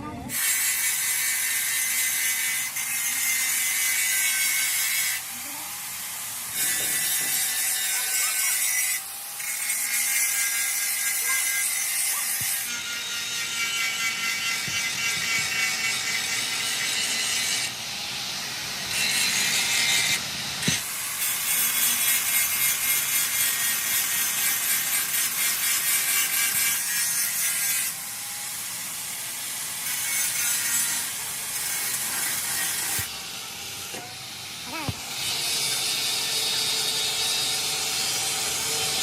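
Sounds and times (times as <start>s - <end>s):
rhythmic rasping of hand tool: 0.3s - 39.0s.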